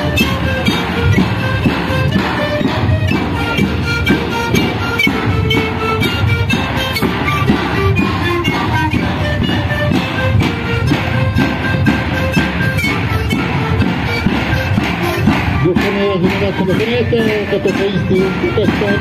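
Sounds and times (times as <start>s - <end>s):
bass drums beating: 0.0s - 19.0s
panpipes playing: 0.0s - 19.0s.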